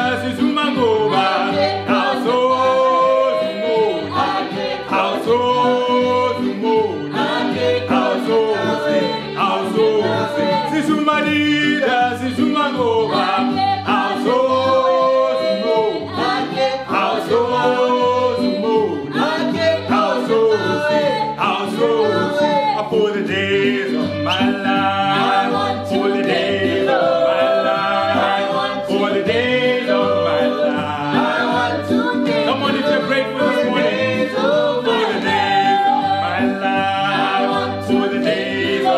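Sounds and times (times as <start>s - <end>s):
group singing gospel song: 0.0s - 38.9s.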